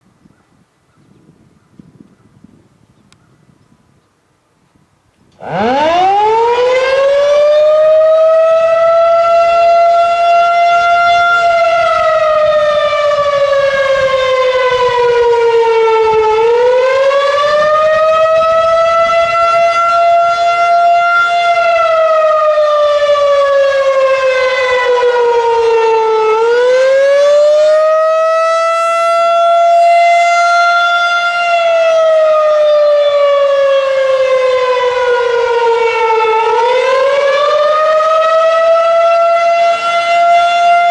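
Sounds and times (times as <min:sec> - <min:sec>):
warning siren rising and falling: 0:05.4 - 0:40.9.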